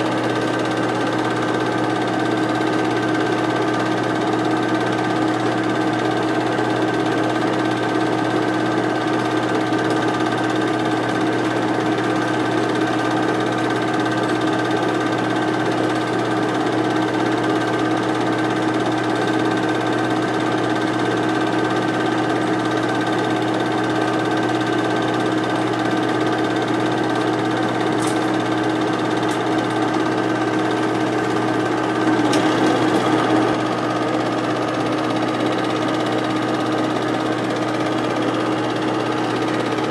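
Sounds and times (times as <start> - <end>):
film projector whirring and clattering: 0.0 - 39.9.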